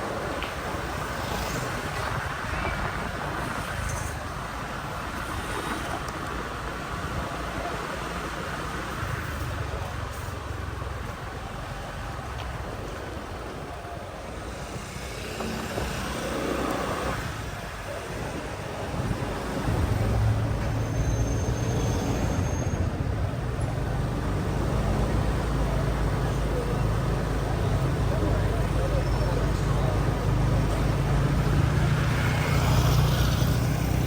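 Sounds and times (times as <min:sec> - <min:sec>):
motorbike engine and road rumble: 0:00.0 - 0:34.0
passing traffic: 0:00.0 - 0:34.0.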